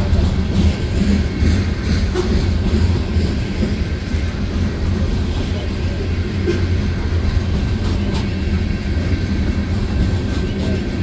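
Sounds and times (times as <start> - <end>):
freight train rolling past: 0.0 - 11.0
steel wheels rumbling on rail: 0.0 - 11.0.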